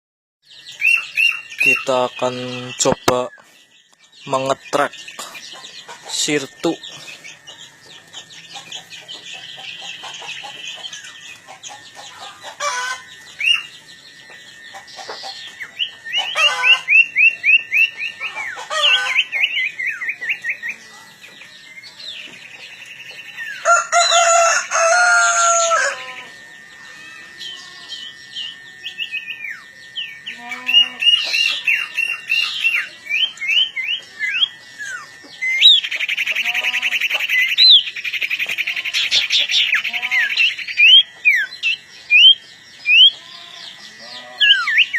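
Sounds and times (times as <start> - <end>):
birds chattering: 0.4 - 44.9
thin steady high tone: 0.4 - 44.9.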